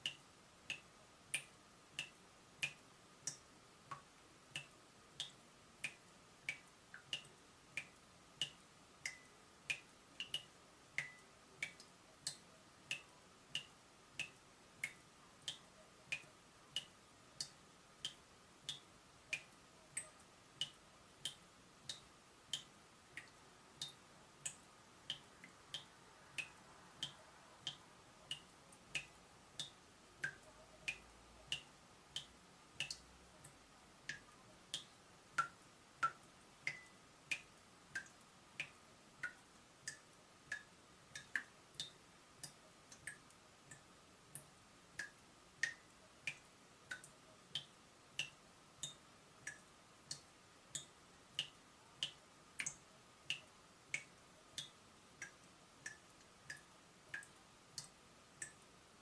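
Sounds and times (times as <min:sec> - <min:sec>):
water dripping from tap: 0:00.0 - 0:58.6.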